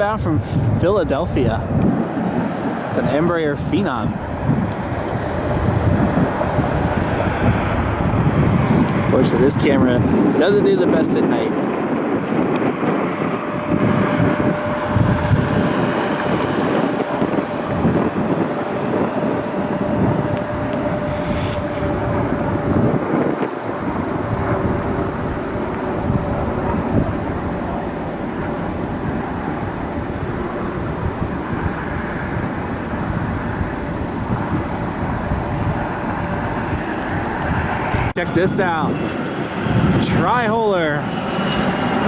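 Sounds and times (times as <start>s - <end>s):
jet engines rumbling: 0.0s - 42.0s
thin steady whine: 0.0s - 42.0s
wind buffeting microphone: 0.0s - 42.0s.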